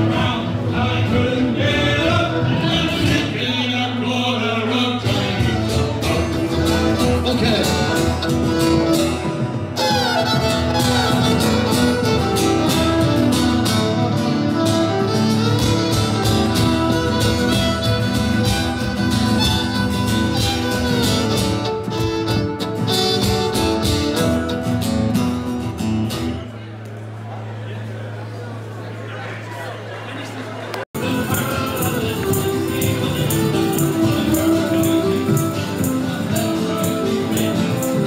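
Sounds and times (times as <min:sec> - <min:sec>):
guitar and fiddle music: 0:00.0 - 0:26.6, 0:31.0 - 0:38.0.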